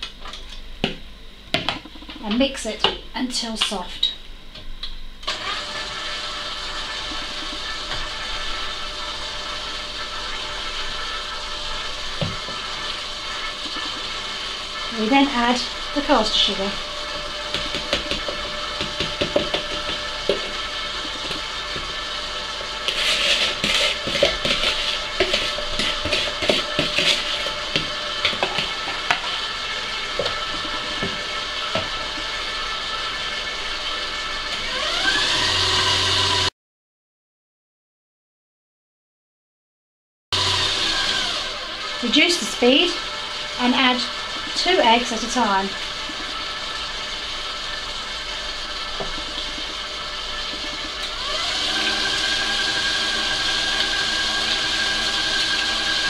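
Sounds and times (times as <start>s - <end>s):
stand mixer motor running: 5.2s - 36.5s, 40.4s - 56.0s.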